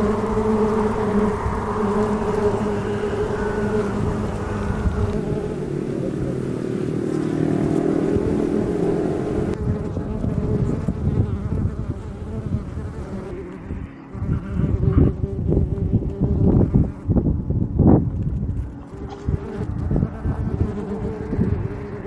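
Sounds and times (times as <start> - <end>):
honeybees buzzing: 0.0 - 17.8, 18.5 - 22.0.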